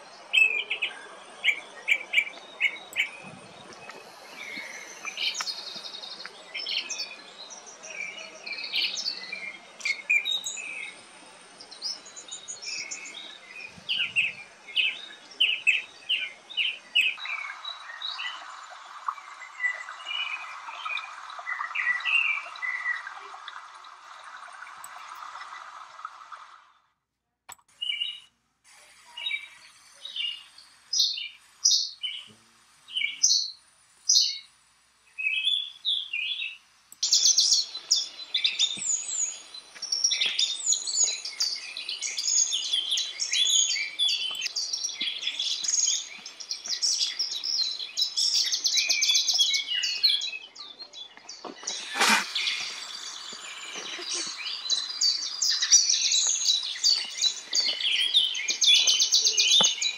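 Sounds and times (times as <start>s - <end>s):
small birds chirping: 0.0s - 25.9s, 27.5s - 28.3s, 29.1s - 59.9s
faint hiss: 0.0s - 26.7s, 27.7s - 59.9s.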